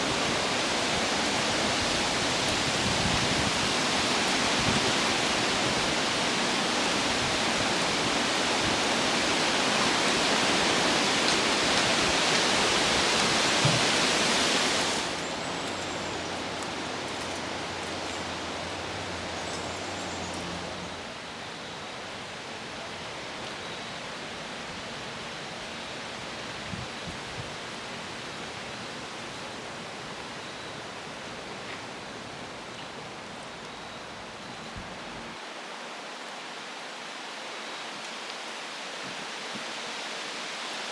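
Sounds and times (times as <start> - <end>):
wind rushing through trees: 0.0 - 40.9.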